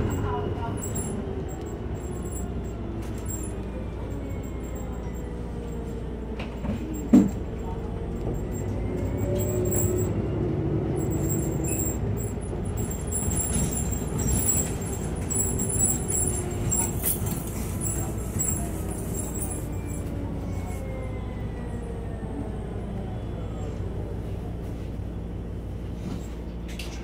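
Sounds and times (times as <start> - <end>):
bus running noise: 0.0 - 27.0.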